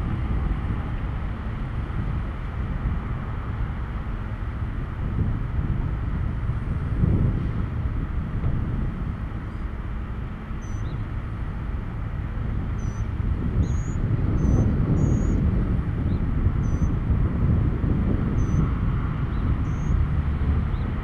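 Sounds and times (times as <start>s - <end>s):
road traffic rumbling: 0.0s - 21.0s.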